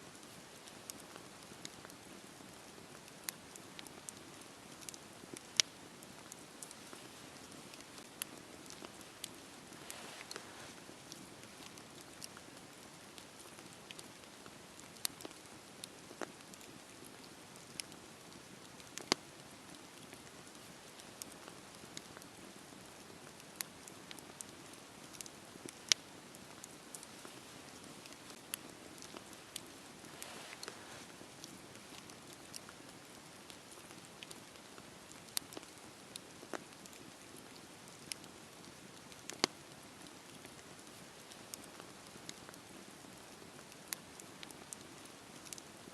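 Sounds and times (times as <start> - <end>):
campfire hissing: 0.1 - 45.9
wood crackling and popping: 0.1 - 45.9.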